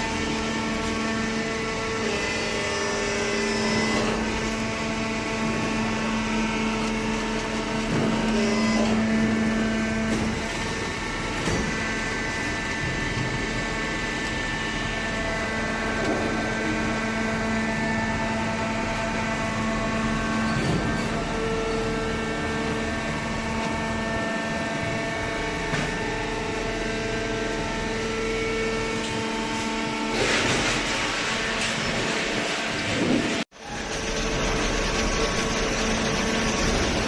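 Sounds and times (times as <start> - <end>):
paper baler machine hum: 0.0 - 37.0
pump motor whine: 0.0 - 37.0.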